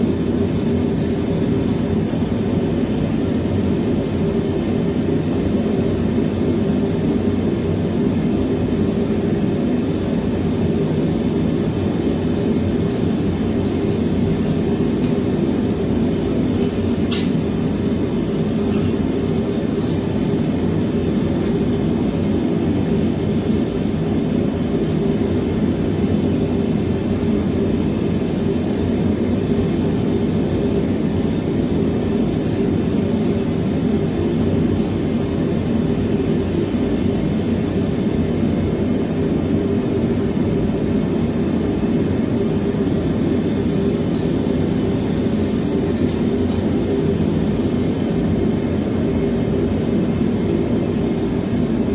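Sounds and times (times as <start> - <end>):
gas furnace burner roaring: 0.0 - 51.9.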